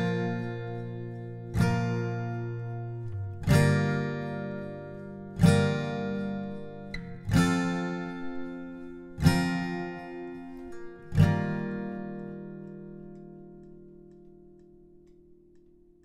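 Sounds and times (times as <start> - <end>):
slow strummed guitar chords: 0.0 - 16.0.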